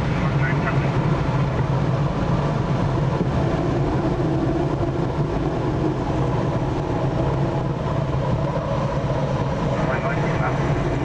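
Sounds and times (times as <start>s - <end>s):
airflow rushing around glider canopy: 0.0s - 11.0s
constant low hum: 0.0s - 11.0s.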